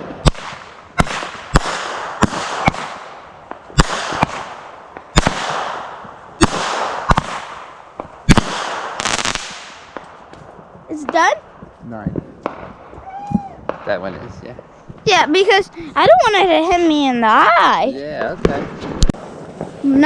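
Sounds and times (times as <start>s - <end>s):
fireworks banging and crackling: 0.0s - 17.2s, 18.0s - 20.0s.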